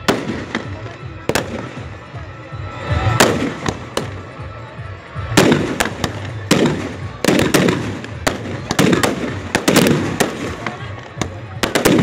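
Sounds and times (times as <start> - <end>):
fireworks bangs with rumbling echo: 0.0 - 12.0.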